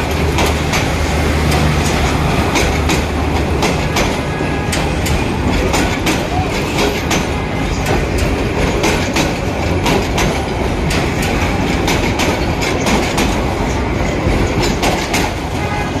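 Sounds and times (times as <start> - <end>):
train coaches rumbling past: 0.0 - 16.0
wheels clicking over rail joints: 0.0 - 16.0.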